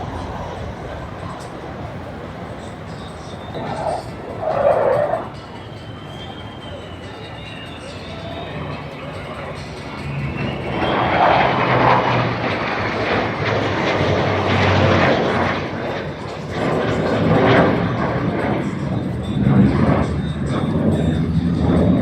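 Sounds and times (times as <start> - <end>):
airplane engine noise: 0.0 - 22.0
low steady drone: 0.0 - 22.0.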